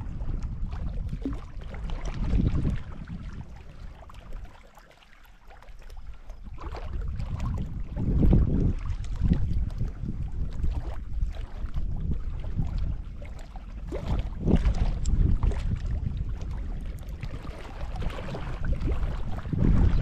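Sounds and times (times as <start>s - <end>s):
wind buffeting microphone: 0.0s - 4.7s, 5.8s - 20.0s
small waves lapping on rocks: 0.1s - 20.0s.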